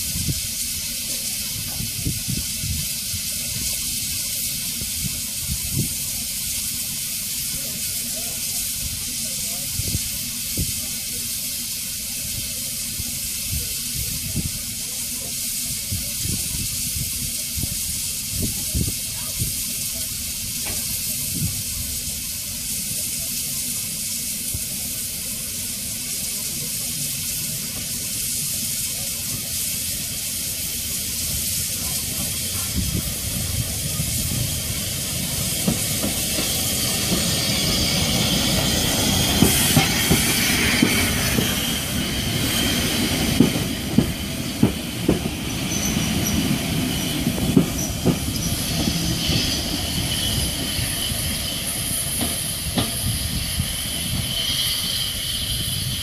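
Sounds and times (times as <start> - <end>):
steam hissing from locomotive: 0.0 - 56.0.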